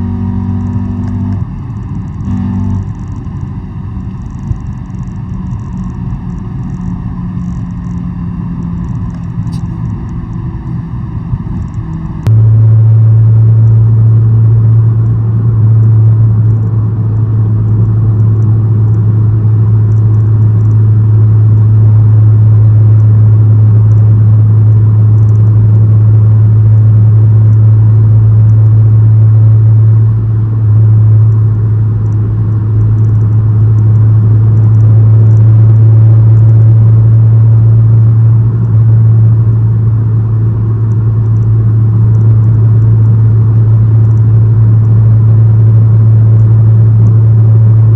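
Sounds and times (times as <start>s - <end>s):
car engine droning: 0.0s - 47.9s.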